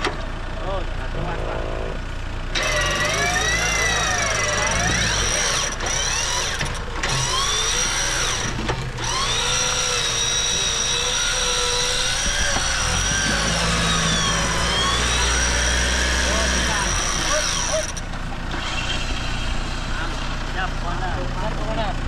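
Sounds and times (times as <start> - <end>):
motor whining: 1.2 - 20.6.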